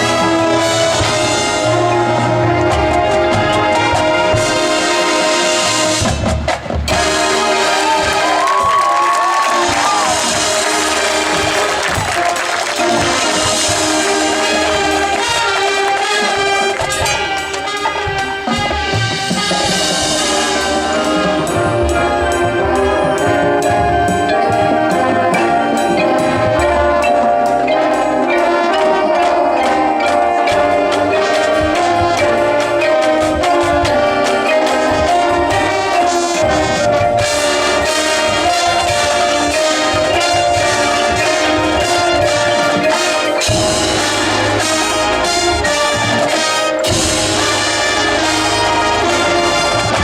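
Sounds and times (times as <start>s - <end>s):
brass sustaining chords: 0.0s - 50.0s
marching drumline: 0.0s - 50.0s.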